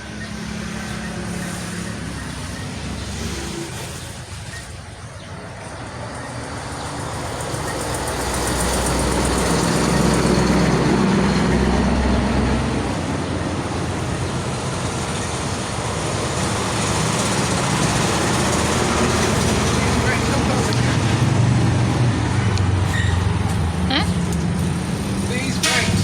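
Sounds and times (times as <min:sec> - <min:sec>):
vehicle engine and road noise: 0:00.0 - 0:26.0.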